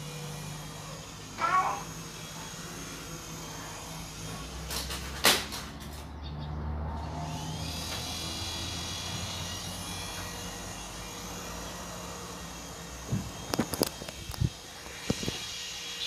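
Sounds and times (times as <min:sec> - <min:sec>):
toy helicopter rotors whirring: 0:00.0 - 0:06.1, 0:07.1 - 0:16.0.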